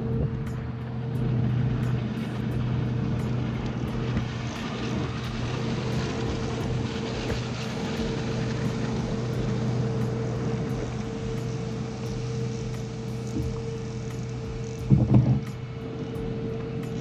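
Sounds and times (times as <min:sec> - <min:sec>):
fishing reel ticking: 0:00.0 - 0:17.0
low drone: 0:00.0 - 0:17.0.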